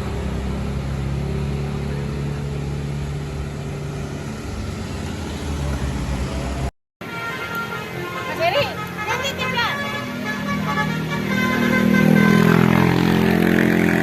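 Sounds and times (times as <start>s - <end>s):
bus engine humming: 0.0s - 14.0s.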